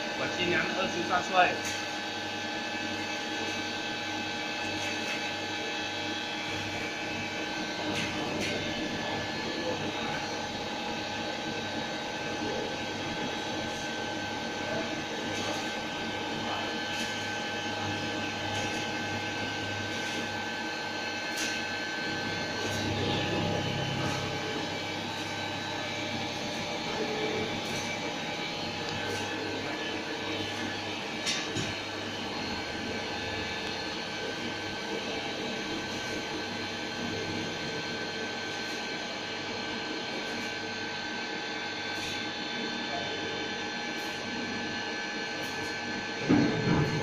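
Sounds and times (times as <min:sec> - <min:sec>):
machinery humming: 0:00.0 - 0:47.0.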